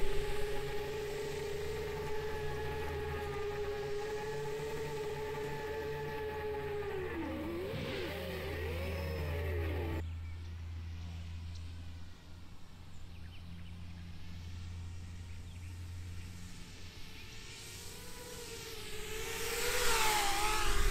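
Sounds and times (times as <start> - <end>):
drone propellers whining: 0.0 - 10.1, 14.2 - 20.9.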